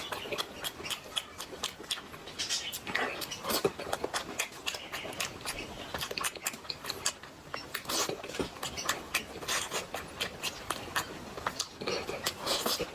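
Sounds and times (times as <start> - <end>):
chewing with crunches and smacks: 0.0 - 12.9.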